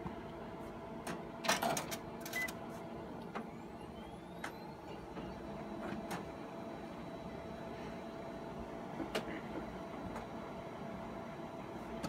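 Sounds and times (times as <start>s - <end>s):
copier fans and motors humming: 0.0s - 12.0s.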